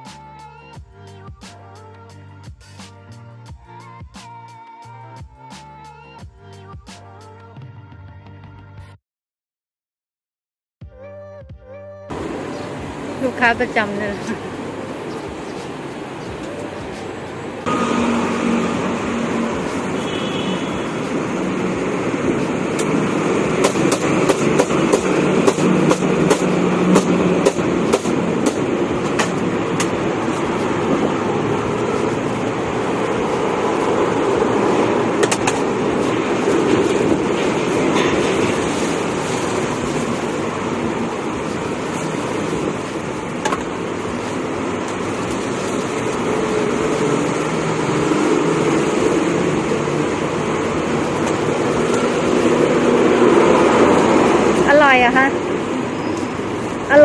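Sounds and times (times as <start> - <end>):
road traffic noise: 0.0 - 7.5, 12.1 - 57.0.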